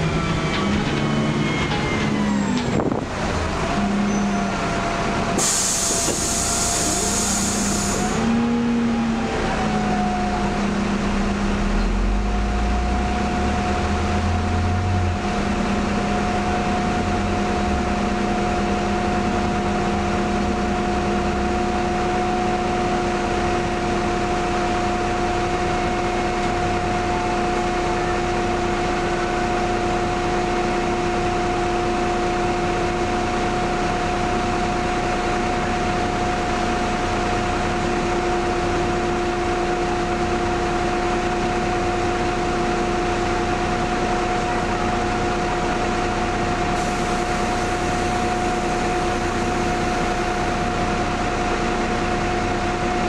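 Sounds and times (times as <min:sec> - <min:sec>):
bus engine idling: 0:00.0 - 0:53.0.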